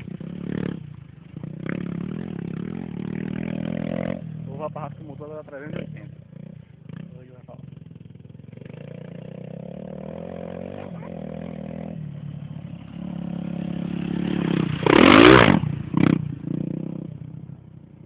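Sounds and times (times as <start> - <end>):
motorcycle engine passing by: 0.0 - 18.0.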